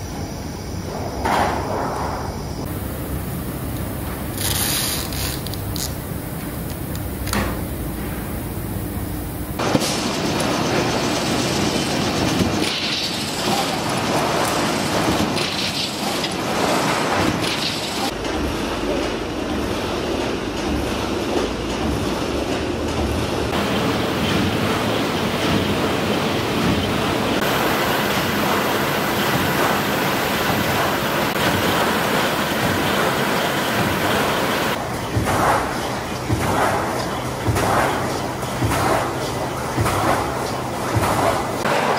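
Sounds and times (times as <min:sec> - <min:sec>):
machinery rumble and clatter: 0:02.6 - 0:41.9.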